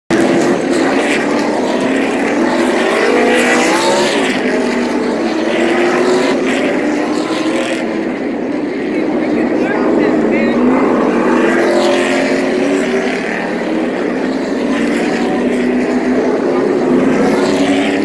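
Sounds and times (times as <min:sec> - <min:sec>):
race car engines passing: 0:00.1 - 0:18.0.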